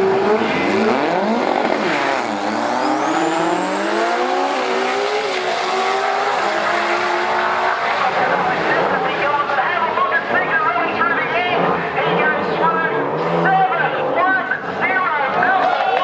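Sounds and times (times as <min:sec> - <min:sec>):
racing car engines at full throttle: 0:00.0 - 0:16.0.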